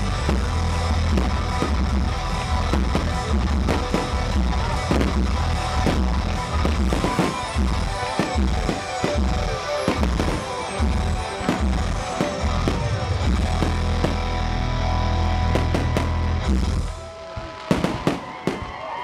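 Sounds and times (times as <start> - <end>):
fireworks popping and banging: 0.0 - 14.6, 15.4 - 19.0
music with heavy bass: 0.0 - 17.0.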